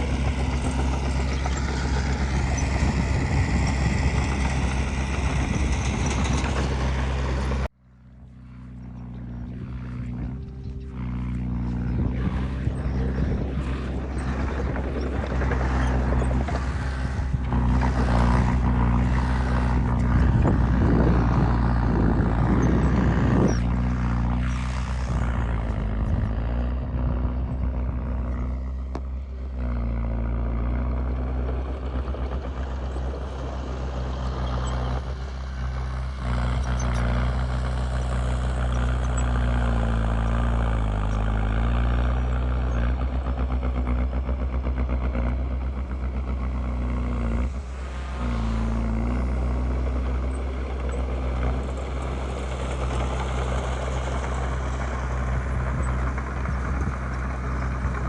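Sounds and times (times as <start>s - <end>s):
heavy diesel engine running: 0.0s - 58.0s
rough rattling noise: 0.0s - 58.0s.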